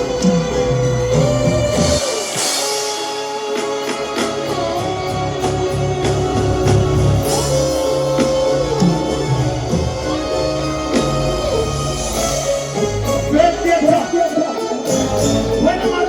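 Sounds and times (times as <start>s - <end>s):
bass: 0.0s - 2.6s, 4.2s - 14.2s, 14.9s - 16.0s
drums: 0.0s - 16.0s
guitar melody: 0.0s - 16.0s
keyboard-like melody: 0.0s - 16.0s.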